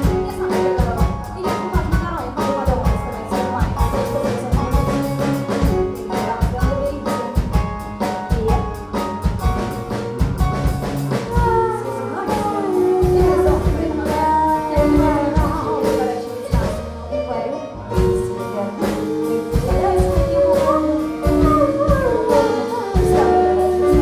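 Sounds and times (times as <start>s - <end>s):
woman singing: 0.0s - 9.1s, 11.3s - 24.0s
live band playing: 0.0s - 24.0s.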